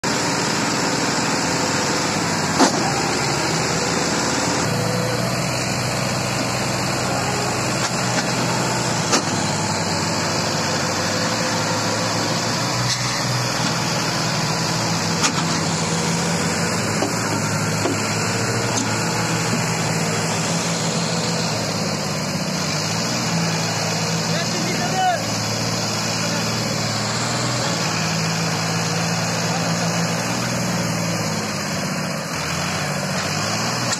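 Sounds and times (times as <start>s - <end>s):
diesel tractor engine under load: 0.0s - 33.9s.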